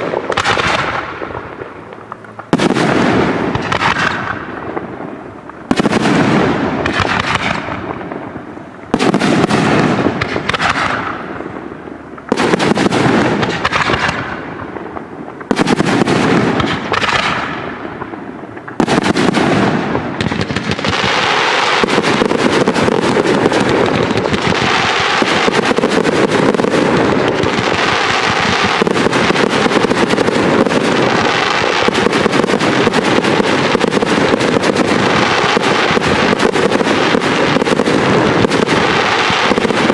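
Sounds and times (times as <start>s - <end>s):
rattle of small firework bursts: 0.0s - 39.9s.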